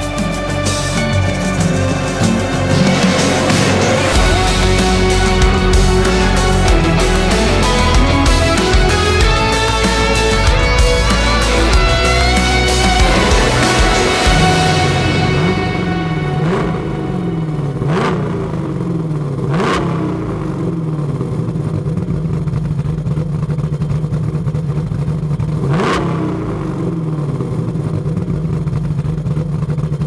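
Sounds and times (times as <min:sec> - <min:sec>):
engine idling: 0:00.0 - 0:30.0
engine throttle blips: 0:00.0 - 0:30.0.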